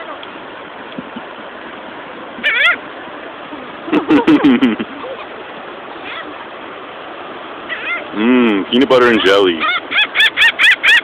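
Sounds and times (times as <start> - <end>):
gulls calling: 0.0 - 11.0
surf hissing: 0.0 - 11.0
wind: 0.0 - 11.0.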